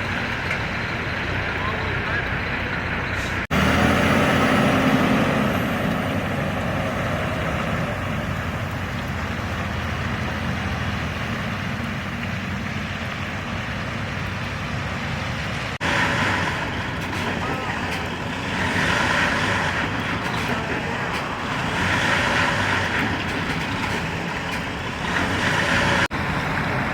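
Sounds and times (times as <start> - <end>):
heavy vehicle engine running: 0.0 - 26.9
road noise: 0.0 - 26.9.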